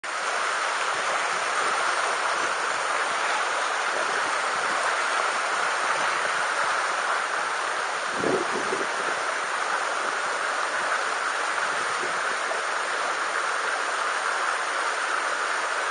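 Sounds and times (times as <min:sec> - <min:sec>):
stream rushing over rocks: 0:00.0 - 0:15.9.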